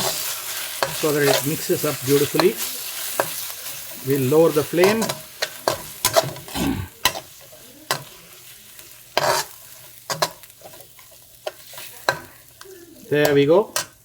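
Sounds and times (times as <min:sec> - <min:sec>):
oil sizzling: 0:00.0 - 0:14.0
spatula scraping a wok: 0:00.0 - 0:14.0.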